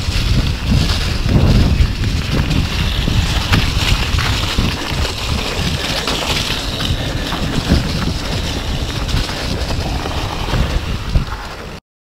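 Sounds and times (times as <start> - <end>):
bike knocks and rattles: 0.0 - 11.8
bike tyres rolling on muddy trail: 0.0 - 11.8
wind buffeting microphone: 0.0 - 11.8.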